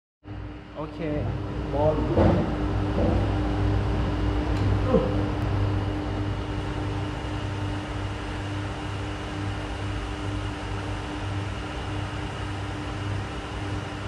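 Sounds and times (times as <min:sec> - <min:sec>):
steady machine hum: 0:00.2 - 0:14.0.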